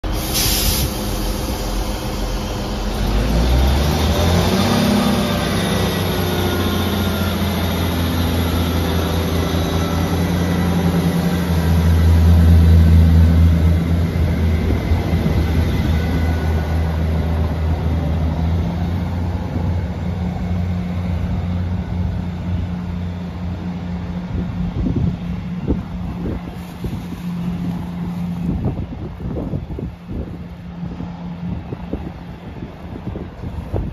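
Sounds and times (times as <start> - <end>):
diesel train engine pulling away: 0.0 - 33.9.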